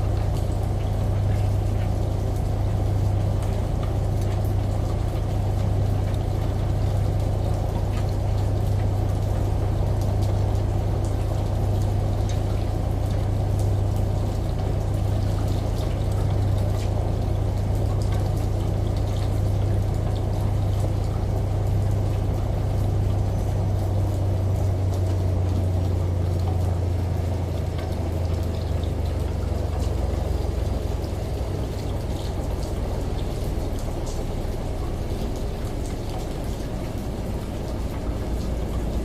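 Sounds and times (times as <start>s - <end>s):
washing machine humming: 0.0s - 39.0s
water dripping: 0.0s - 39.0s.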